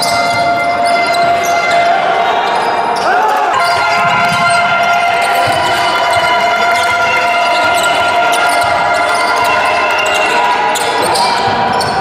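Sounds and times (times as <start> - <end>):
high tones in a hall: 0.0 - 12.0.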